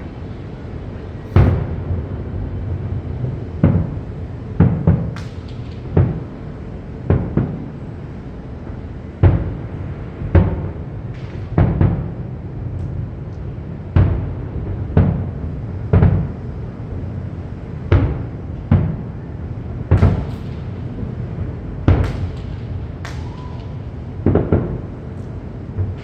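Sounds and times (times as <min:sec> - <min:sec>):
fireworks bursting with booms: 0:00.0 - 0:26.0.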